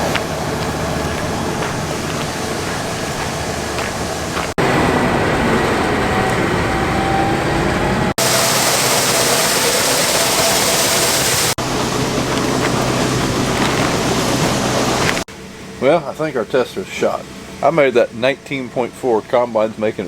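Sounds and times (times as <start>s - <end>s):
heavy farm machinery running: 0.0s - 20.0s.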